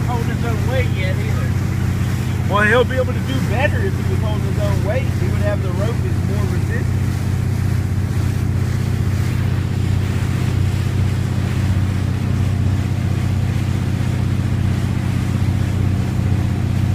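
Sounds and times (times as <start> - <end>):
motorboat engine droning: 0.0 - 16.9
water rushing from wake: 0.0 - 16.9.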